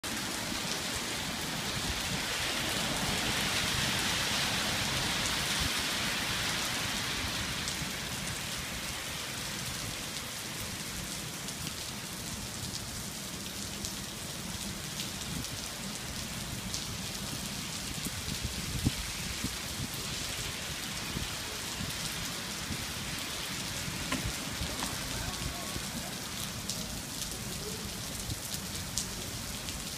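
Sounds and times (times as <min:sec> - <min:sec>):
heavy rain on pavement: 0:00.0 - 0:29.9.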